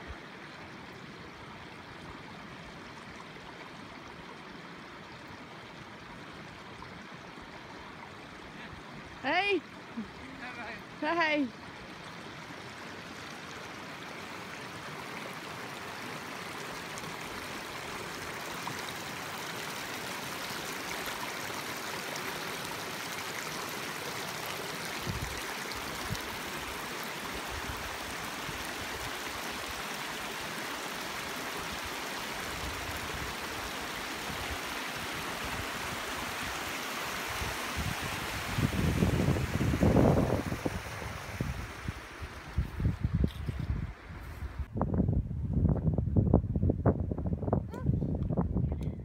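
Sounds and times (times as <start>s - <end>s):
stream rushing over rocks: 0.0s - 44.2s.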